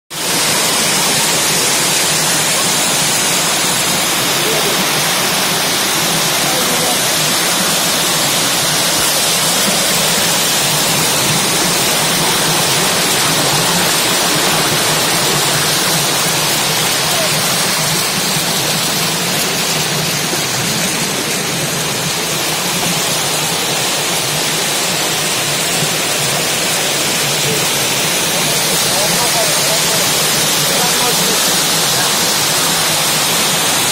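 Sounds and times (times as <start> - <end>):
waterfall splashing over rocks: 0.1 - 33.9.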